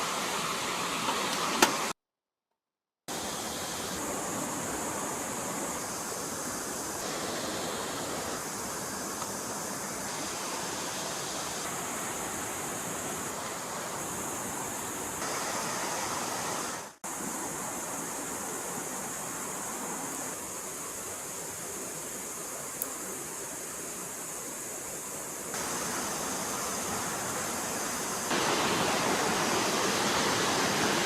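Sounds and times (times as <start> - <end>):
stream water rushing: 0.0 - 1.9, 3.1 - 31.0.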